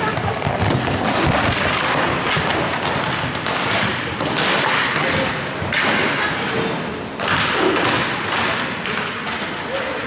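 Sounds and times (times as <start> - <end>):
hockey sticks and puck knocking: 0.0 - 10.0
skates rolling and shuffling: 0.0 - 10.0.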